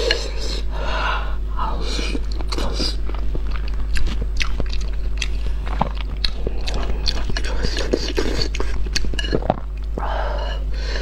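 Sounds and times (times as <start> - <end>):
steady low hum: 0.0 - 11.0
person chewing food: 1.8 - 10.8.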